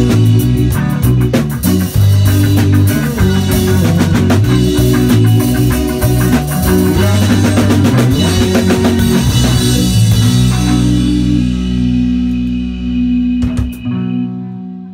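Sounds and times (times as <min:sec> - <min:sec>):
rock band playing live: 0:00.0 - 0:14.9.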